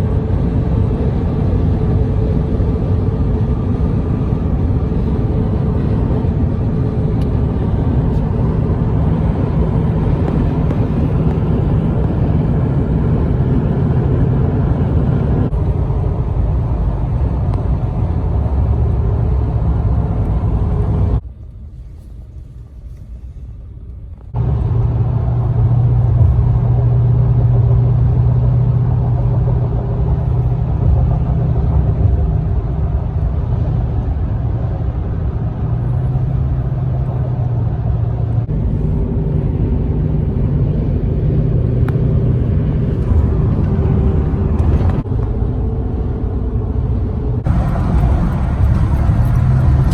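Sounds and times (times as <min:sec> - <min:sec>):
large vehicle engine rumbling: 0:00.0 - 0:49.9.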